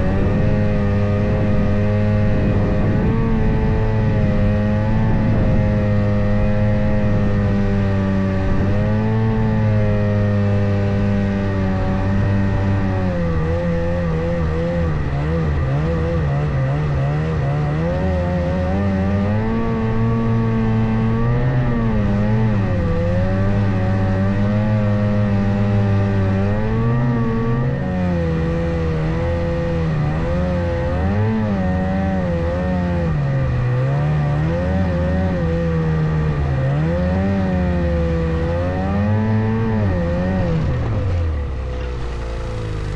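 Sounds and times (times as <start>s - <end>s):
snowmobile engine revving: 0.0s - 42.9s.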